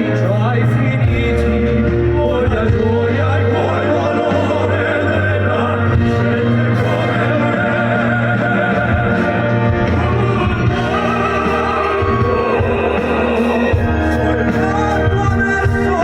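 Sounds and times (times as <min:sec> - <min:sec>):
heavy pulsing bass: 0:00.0 - 0:16.0
live concert music through speakers: 0:00.0 - 0:16.0.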